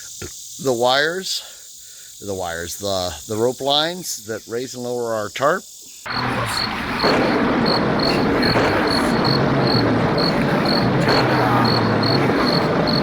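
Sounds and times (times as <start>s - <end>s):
insect chirping: 0.0s - 13.0s
steady hiss: 0.0s - 13.0s.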